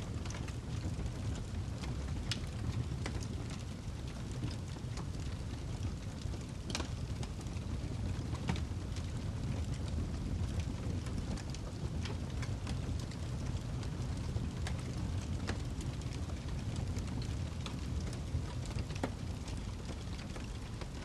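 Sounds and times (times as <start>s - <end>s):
fire crackles and pops: 0.0s - 21.0s
low rumble of flames: 0.0s - 21.0s.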